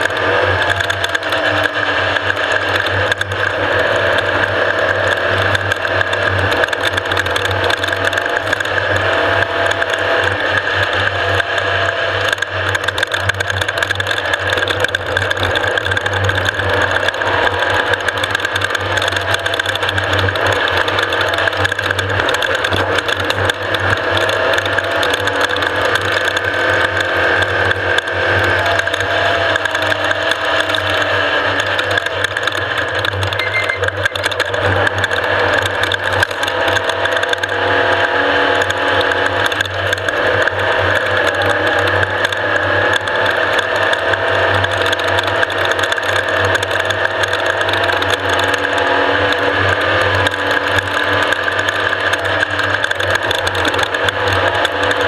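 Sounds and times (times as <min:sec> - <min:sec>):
engine and drivetrain noise: 0:00.0 - 0:55.0
fast mechanical rattling: 0:00.0 - 0:55.0.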